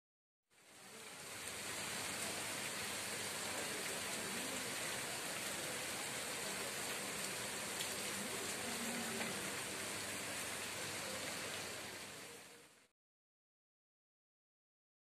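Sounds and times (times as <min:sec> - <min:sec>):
steady rain hiss: 0:00.5 - 0:12.9.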